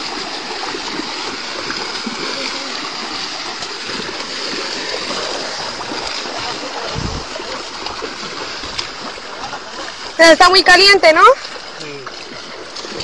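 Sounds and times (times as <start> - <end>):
feet splashing through muddy water: 0.0 - 13.0.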